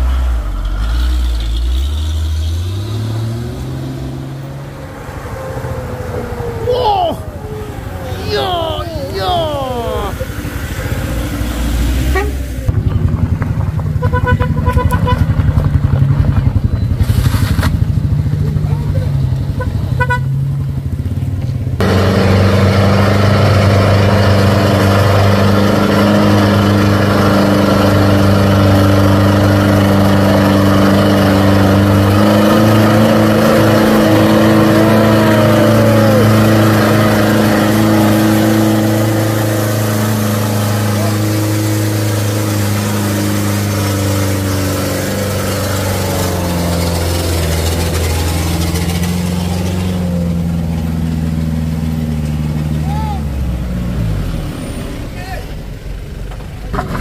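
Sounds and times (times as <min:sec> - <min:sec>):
truck diesel engines under load: 0:00.0 - 0:57.0.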